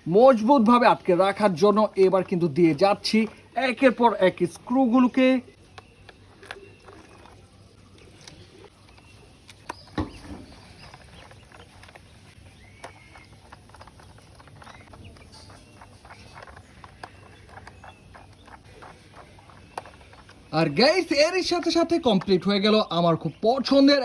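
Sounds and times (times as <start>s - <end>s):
plastic parts squeaking: 0.0s - 24.0s.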